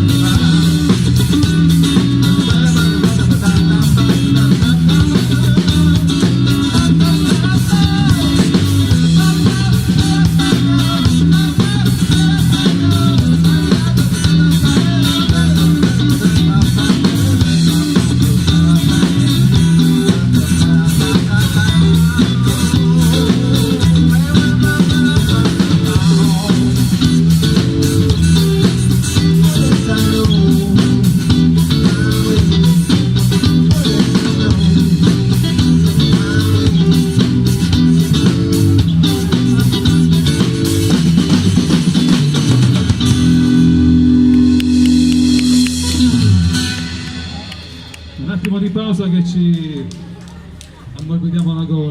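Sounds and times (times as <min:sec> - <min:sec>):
rock band playing: 0:00.0 - 0:50.6.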